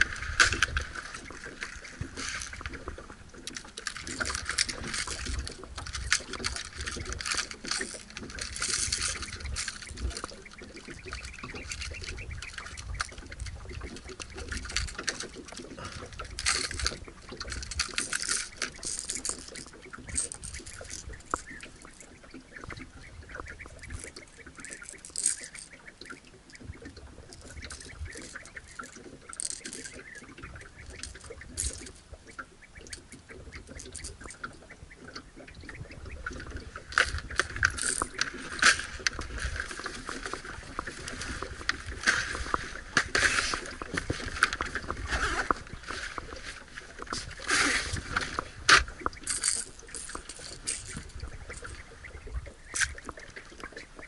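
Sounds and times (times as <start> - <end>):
plastic lures clicking and rattling: 0.0 - 22.9, 23.6 - 54.0.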